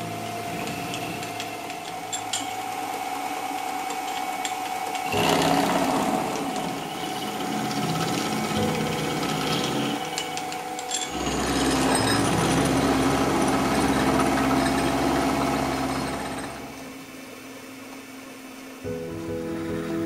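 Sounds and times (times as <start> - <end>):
milling machine cutting aluminium: 0.0 - 17.1.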